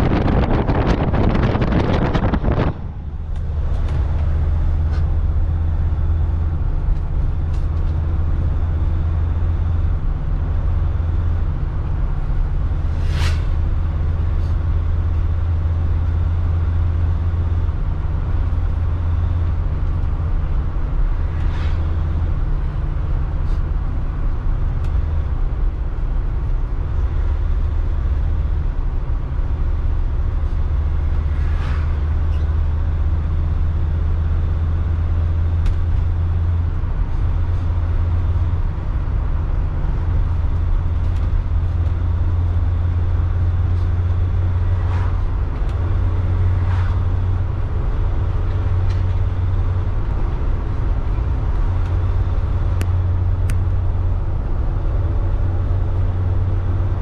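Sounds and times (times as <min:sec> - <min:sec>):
engine and road drone: 0:00.0 - 0:57.0.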